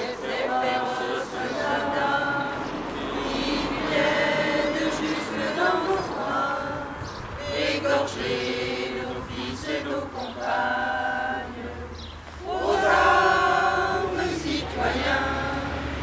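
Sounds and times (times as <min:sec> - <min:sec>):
group singing held notes: 0:00.0 - 0:16.0.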